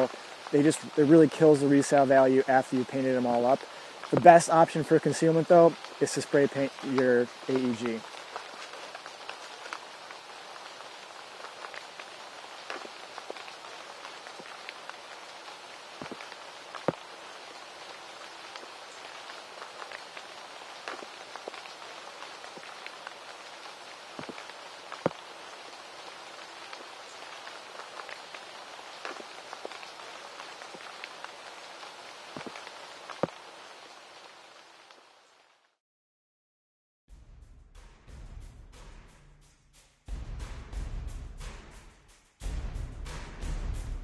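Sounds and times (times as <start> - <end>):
rain patter: 0.0 - 35.8.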